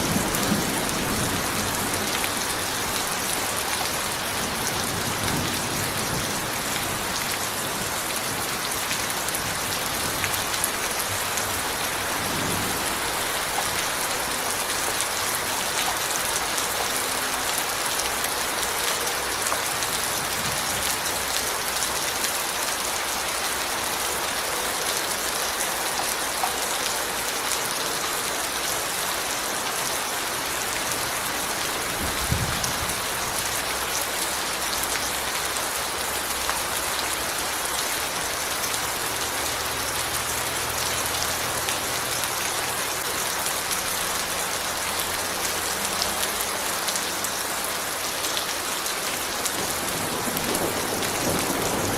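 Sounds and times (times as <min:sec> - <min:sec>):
steady rain patter: 0:00.0 - 0:51.9.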